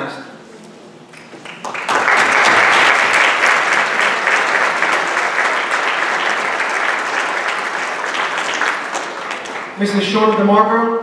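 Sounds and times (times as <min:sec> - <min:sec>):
audience applauding: 0:01.2 - 0:10.1.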